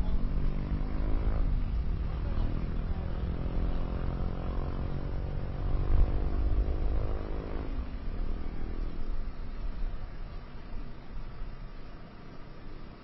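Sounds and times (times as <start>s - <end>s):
engine droning hum: 0.0s - 13.0s.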